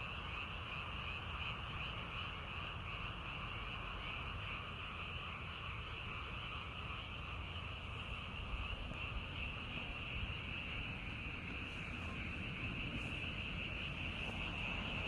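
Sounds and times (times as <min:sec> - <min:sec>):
frogs chorus trilling: 0:00.0 - 0:15.0.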